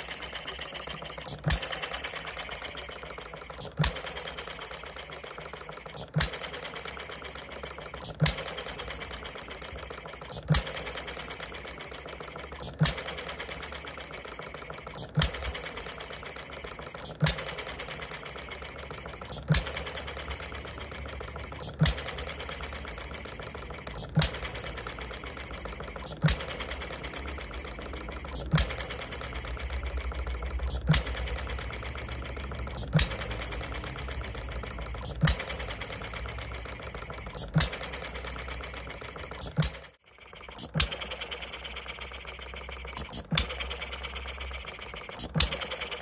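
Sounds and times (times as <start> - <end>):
stationary engine firing: 0.0 - 46.0.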